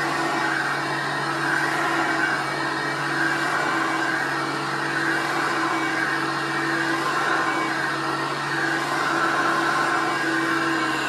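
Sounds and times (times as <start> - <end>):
vacuum cleaner running on carpet: 0.0 - 11.0.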